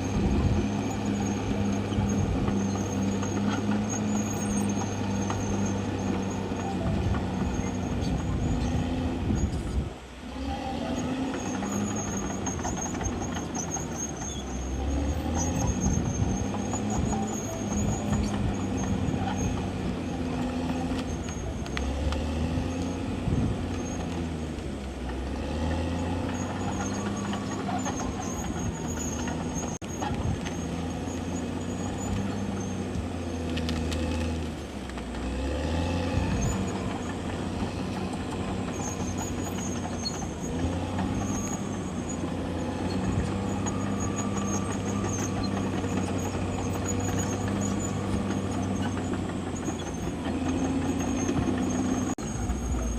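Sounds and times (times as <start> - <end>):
faint high squeal: 0.0 - 22.8, 25.9 - 34.3, 37.7 - 52.9
bulldozer diesel engine working: 0.0 - 52.9.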